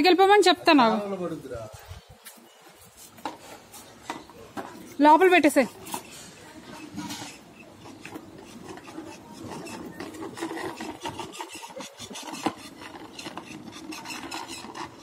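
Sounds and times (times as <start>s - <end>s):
plastic wheels rolling on concrete: 0.0s - 15.0s.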